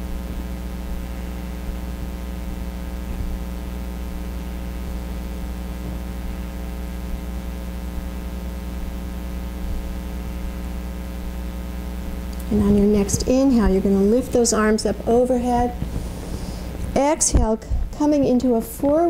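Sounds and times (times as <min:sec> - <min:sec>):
electrical hum with faint hiss: 0:00.0 - 0:19.0.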